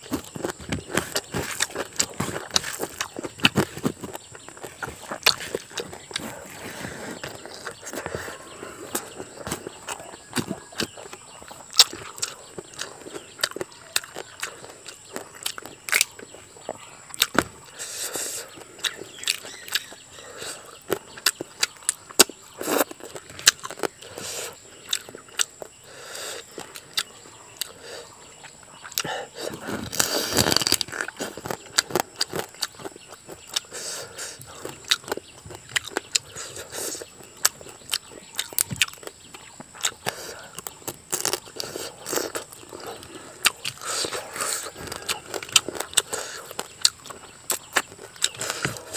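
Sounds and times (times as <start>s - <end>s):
person chewing and smacking: 0.0s - 48.9s.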